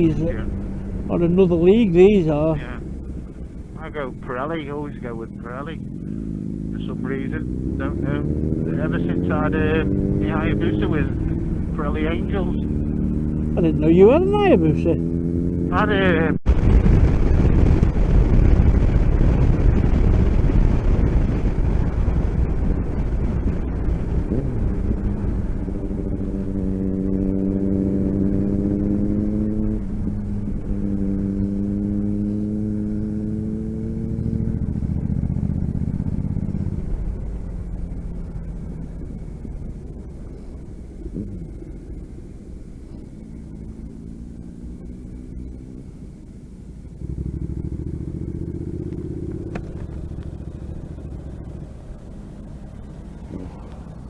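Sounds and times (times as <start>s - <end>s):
motorcycle engine shifting gears: 0.0s - 54.0s
road rumble: 0.0s - 54.0s
wind: 0.0s - 54.0s.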